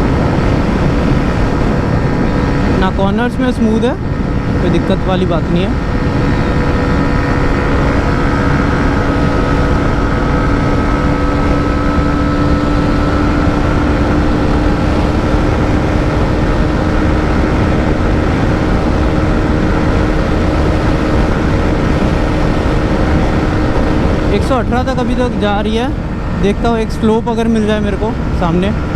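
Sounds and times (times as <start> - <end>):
motorcycle engine at high revs: 0.0 - 28.9
wind rush on microphone: 0.0 - 28.9.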